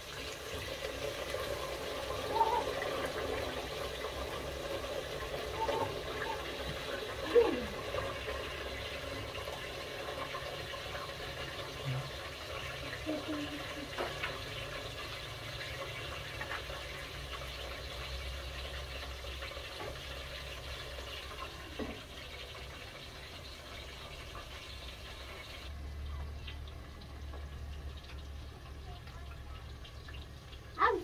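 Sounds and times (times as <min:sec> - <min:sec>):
pot hissing on stove: 0:00.0 - 0:25.8.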